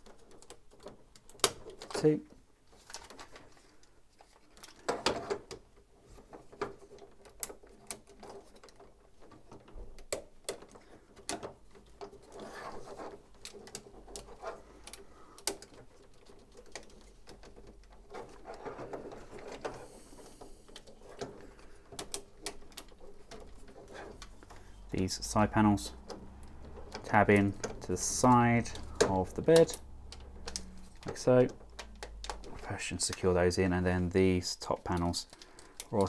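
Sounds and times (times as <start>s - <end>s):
plastic toy parts clicking: 0.0s - 3.6s, 4.2s - 36.0s
handling scraping: 0.0s - 36.0s.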